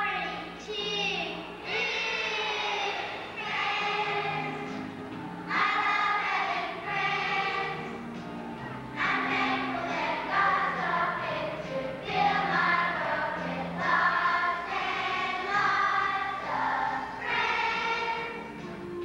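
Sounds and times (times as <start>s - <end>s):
children's choir singing: 0.0s - 19.0s
held low accompanying notes: 0.0s - 19.0s.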